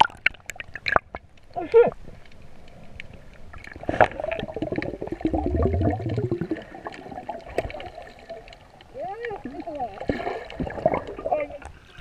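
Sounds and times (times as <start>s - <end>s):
dense crackling: 0.0s - 12.0s
underwater gurgling and bubbling: 1.9s - 12.0s.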